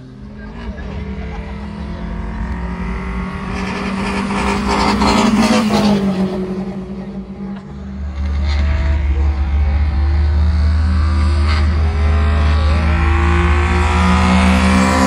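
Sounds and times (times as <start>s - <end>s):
drag racing cars passing: 0.0s - 15.0s
steady low drone: 0.0s - 15.0s.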